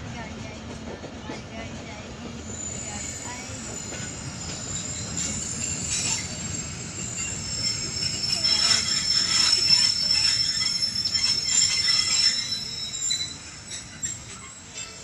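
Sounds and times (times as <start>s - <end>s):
train wheels rumbling on rails: 0.0s - 15.0s
high-pitched wheel squeal: 2.5s - 15.0s.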